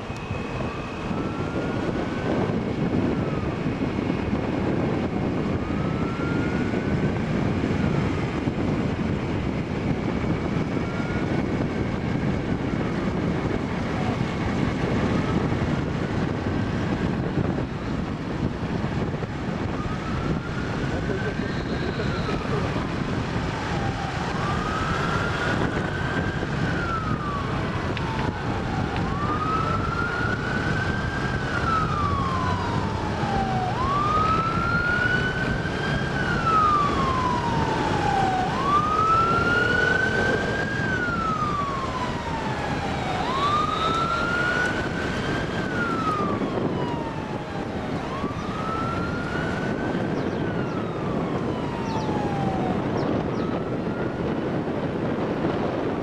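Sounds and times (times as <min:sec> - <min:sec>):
road noise: 0:00.0 - 0:56.0
siren wailing: 0:00.0 - 0:56.0
wind noise: 0:00.0 - 0:56.0.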